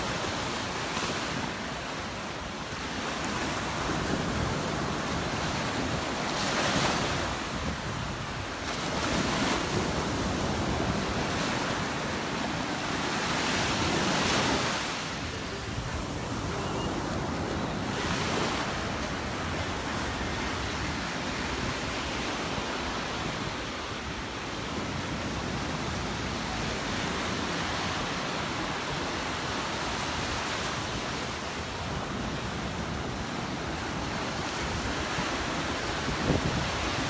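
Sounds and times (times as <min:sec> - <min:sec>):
ocean waves breaking: 0:00.0 - 0:37.0
wind on microphone: 0:03.1 - 0:37.0.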